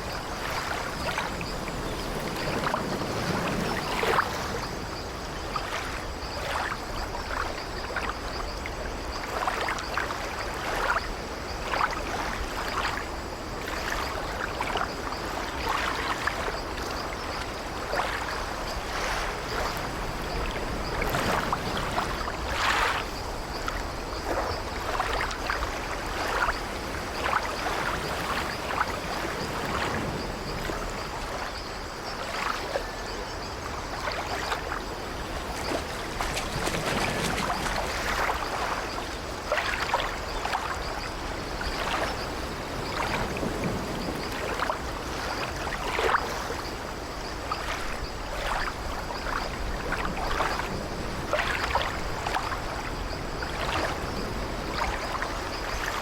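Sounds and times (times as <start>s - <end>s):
small water splashes: 0.0s - 56.0s
water lapping against wooden hull: 0.0s - 56.0s.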